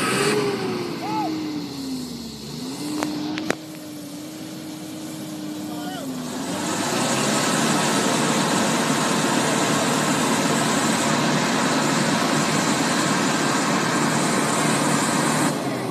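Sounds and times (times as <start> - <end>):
car engine running hard: 0.0 - 15.9.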